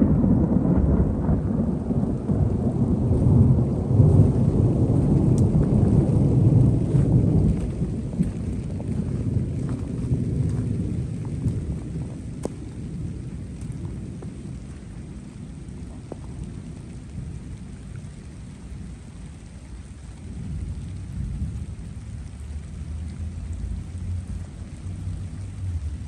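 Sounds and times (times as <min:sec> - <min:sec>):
rumble of thunder: 0:00.0 - 0:26.0
steady rain: 0:00.0 - 0:26.0.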